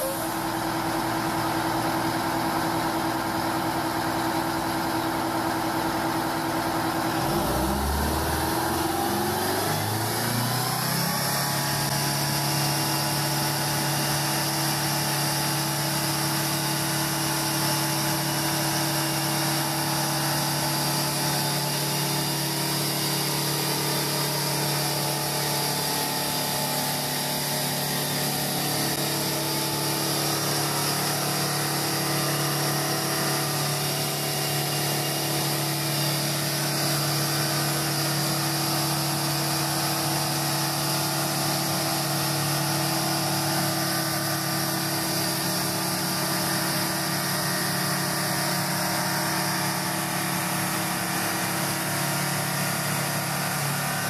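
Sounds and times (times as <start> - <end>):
diesel truck engine under load: 0.0 - 54.0.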